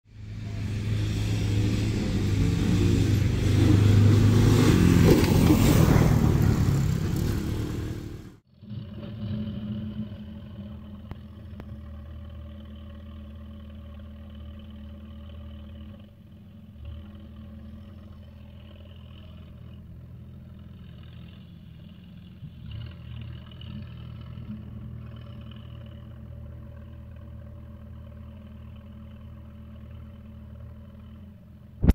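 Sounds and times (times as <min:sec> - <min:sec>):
close engine clattering: 0:00.1 - 0:31.9
distant tractor engine running: 0:00.1 - 0:31.9.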